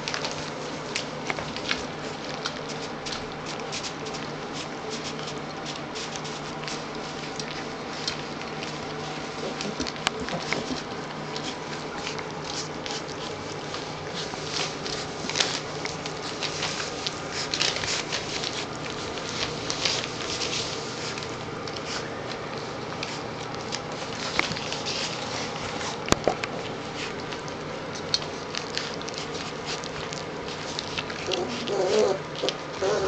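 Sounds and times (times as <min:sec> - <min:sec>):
puppies eating wet smacking: 0:00.0 - 0:33.0.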